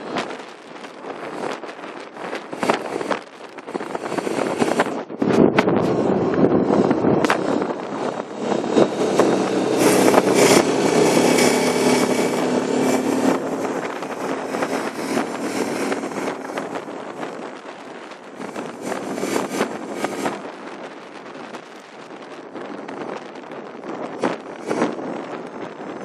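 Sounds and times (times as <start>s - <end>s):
quad bike engine drone: 0.0s - 26.0s
wind and road noise: 0.0s - 26.0s.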